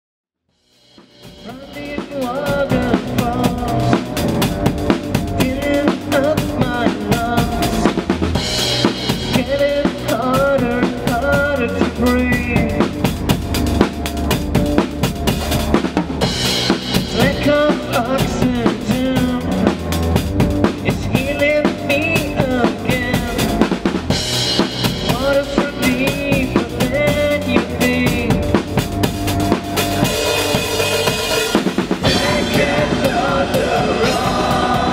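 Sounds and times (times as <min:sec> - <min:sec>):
fast drum kit playing: 0:00.5 - 0:34.9
metal band music: 0:00.6 - 0:34.9.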